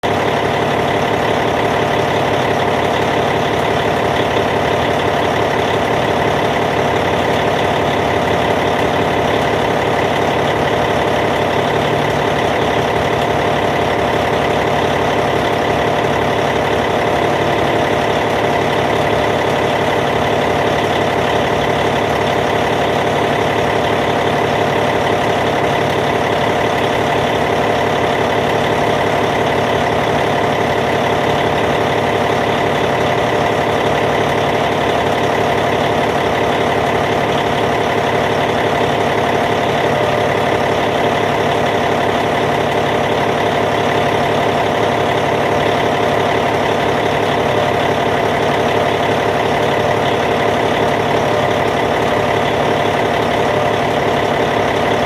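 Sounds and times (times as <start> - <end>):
bulldozer diesel engine idling: 0.0 - 55.0.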